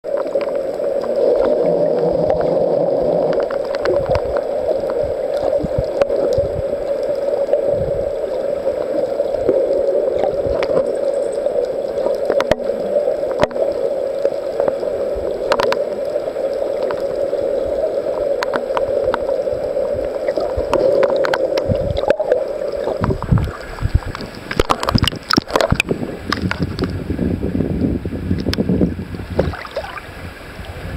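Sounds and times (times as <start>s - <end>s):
water splashing: 0.0s - 27.1s, 29.2s - 30.9s
muffled underwater rush: 0.0s - 30.9s.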